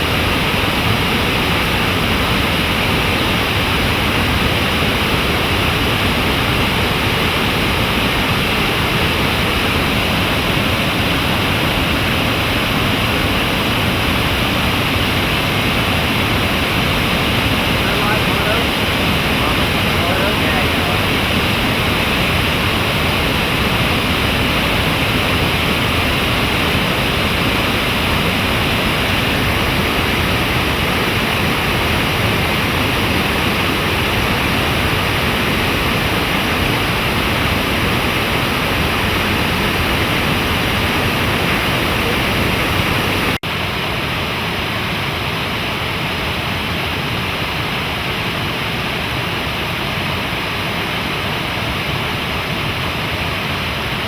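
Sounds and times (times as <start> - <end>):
rushing stream water: 0.0 - 54.0.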